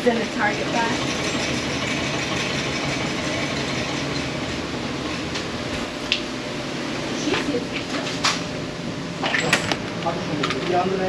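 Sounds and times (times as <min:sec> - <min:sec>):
motorized target carrier rumbling: 0:00.0 - 0:10.9.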